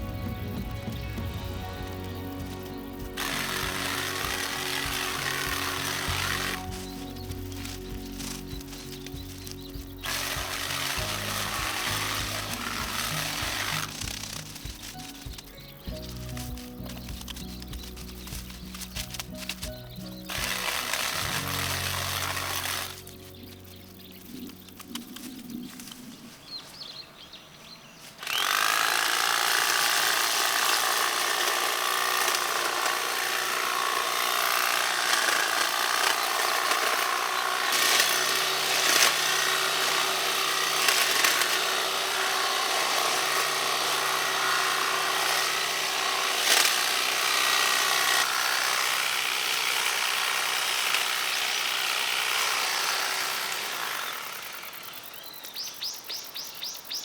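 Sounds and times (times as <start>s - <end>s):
hedge trimmer running: 0.0s - 27.3s, 28.0s - 55.8s
sharp cutting clicks: 0.2s - 26.2s, 28.2s - 56.1s.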